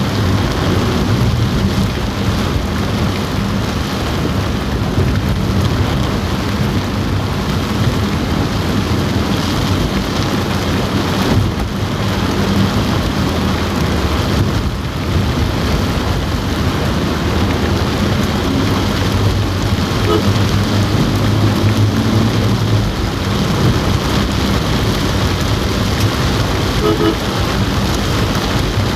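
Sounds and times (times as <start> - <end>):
heavy rain on car roof: 0.0 - 28.9.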